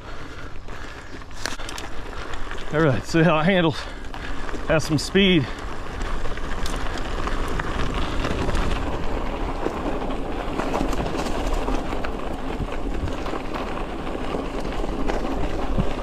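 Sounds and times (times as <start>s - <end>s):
bike clicks and rattles: 0.0s - 16.0s
bike tyres rolling on gravel: 0.0s - 16.0s.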